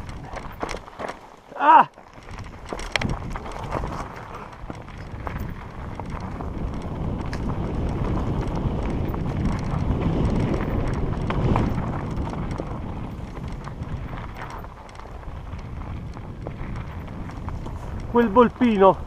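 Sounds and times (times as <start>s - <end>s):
bike clicking and rattling over rocks: 0.0s - 19.0s
tyres crunching on loose stones: 0.0s - 19.0s
wind buffeting microphone: 0.0s - 19.0s.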